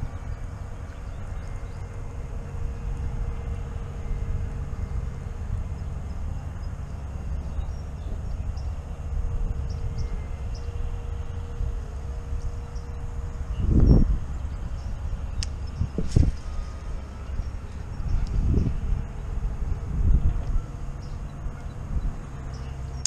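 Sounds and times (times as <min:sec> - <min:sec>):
faint even hum: 0:00.0 - 0:23.0
steady low rumble: 0:00.0 - 0:23.0.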